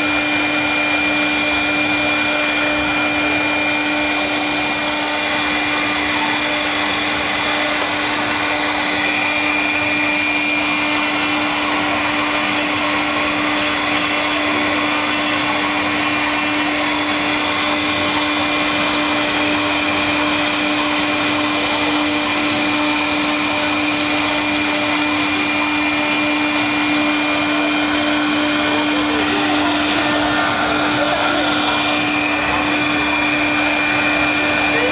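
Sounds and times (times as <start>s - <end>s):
wood router whining: 0.0s - 34.9s.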